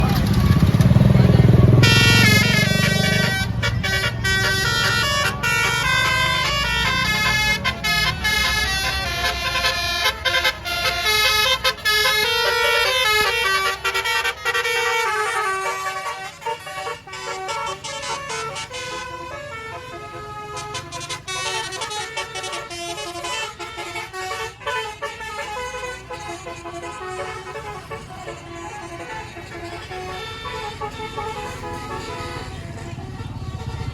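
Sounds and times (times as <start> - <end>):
bus horn playing a melody: 0.0 - 33.9.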